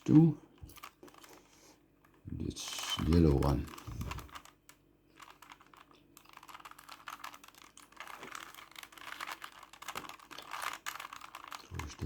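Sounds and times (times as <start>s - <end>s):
plastic puzzle cube clicking: 0.0s - 1.4s, 2.8s - 12.0s.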